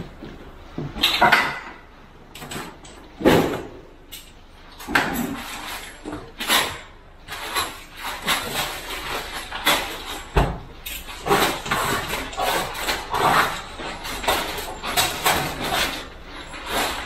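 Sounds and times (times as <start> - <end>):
knocks and clatter of cabinet work: 0.0 - 17.0.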